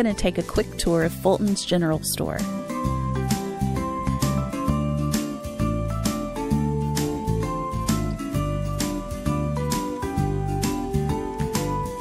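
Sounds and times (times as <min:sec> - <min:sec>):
background music with beat: 0:02.4 - 0:12.0.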